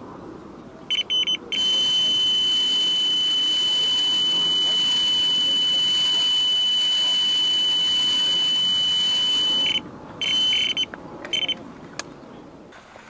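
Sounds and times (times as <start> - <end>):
bite alarm tone and beeps: 0.9 - 11.6.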